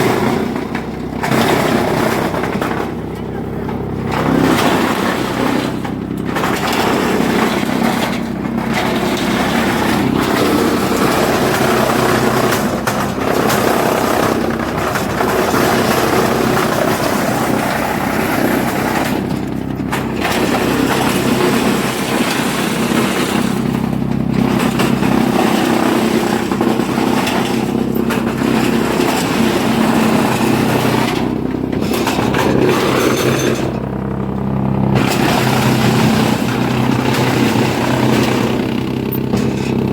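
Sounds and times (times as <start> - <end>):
wood chipper machine hum: 0.0 - 39.9
wood chipping noise: 0.0 - 39.9.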